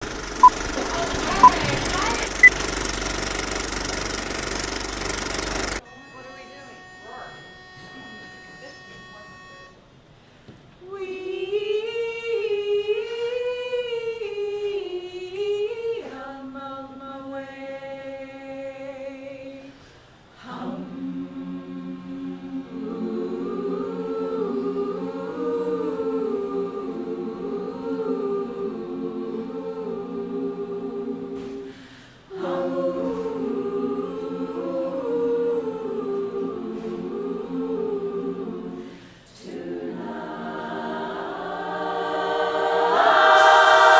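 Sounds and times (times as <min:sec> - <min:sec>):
a cappella choir singing: 0:00.0 - 0:02.5, 0:10.8 - 0:43.9.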